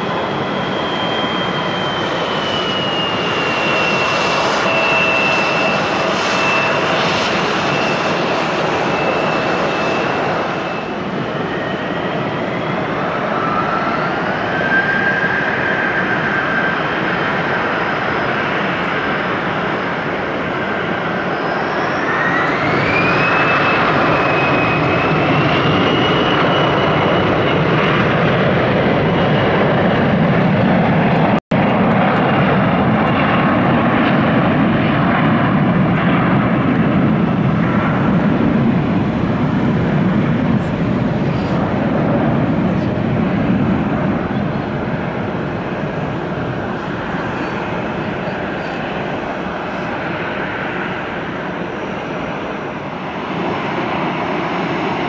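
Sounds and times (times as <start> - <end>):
jet engines spooling up and roaring: 0.0 - 55.0.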